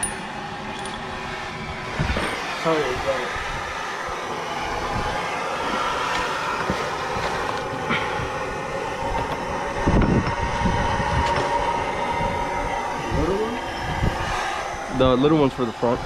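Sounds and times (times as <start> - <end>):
gas torch flame hissing: 0.0 - 16.0.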